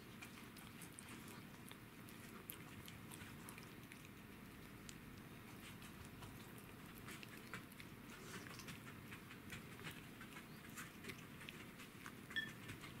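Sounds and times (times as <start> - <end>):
cat gnawing on bone: 0.0 - 13.0.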